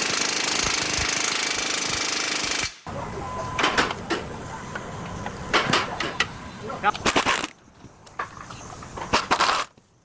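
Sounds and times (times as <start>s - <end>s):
pneumatic impact wrench hammering: 0.0s - 2.9s, 3.6s - 9.9s.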